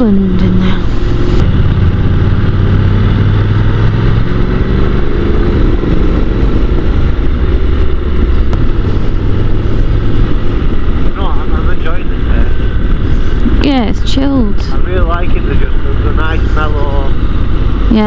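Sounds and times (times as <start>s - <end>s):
motorcycle engine running: 0.0s - 18.0s
wind rush: 0.0s - 18.0s.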